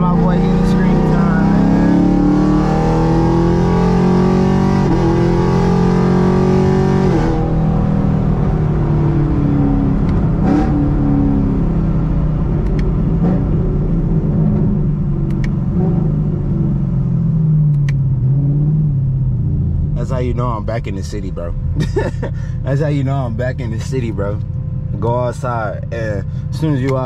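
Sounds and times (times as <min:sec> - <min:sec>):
car engine accelerating: 0:00.0 - 0:27.0
road rumble: 0:00.0 - 0:27.0.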